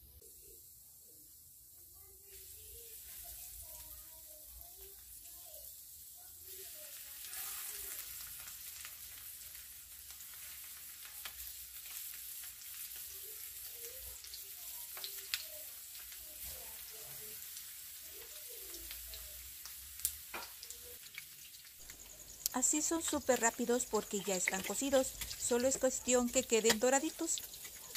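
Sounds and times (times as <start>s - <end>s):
chicken frying in oil: 0.0s - 27.9s
oil crackles and pops: 2.2s - 27.9s.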